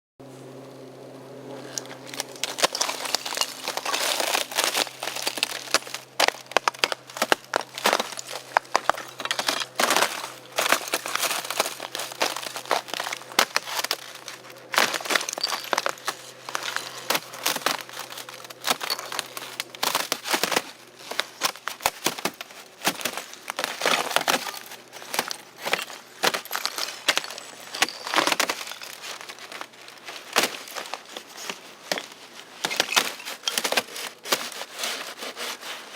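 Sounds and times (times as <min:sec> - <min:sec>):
plastic crinkling and crackling: 0:01.6 - 0:35.9.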